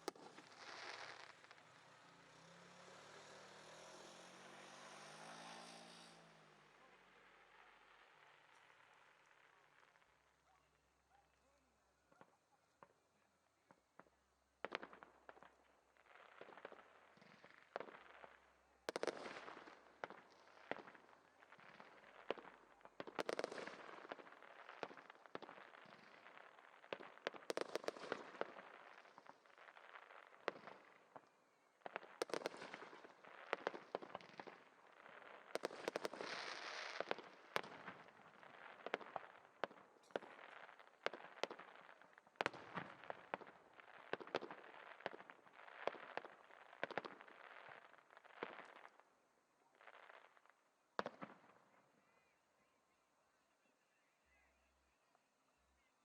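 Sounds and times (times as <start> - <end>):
fireworks bursting with bangs: 0.0 - 10.1, 14.0 - 48.9.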